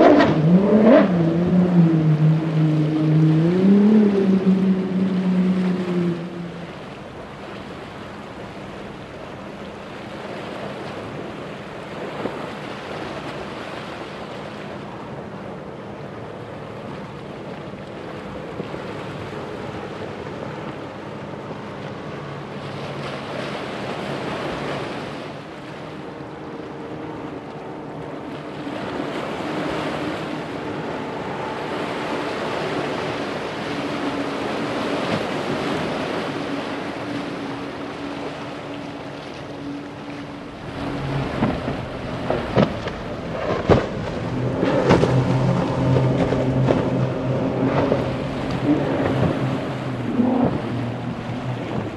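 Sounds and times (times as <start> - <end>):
outboard motors humming: 0.0 - 51.9
spray and surf splashing: 0.0 - 51.9.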